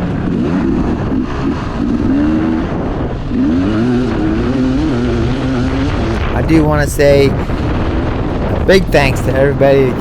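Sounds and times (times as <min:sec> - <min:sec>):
dirt bike engine revving: 0:00.0 - 0:09.3.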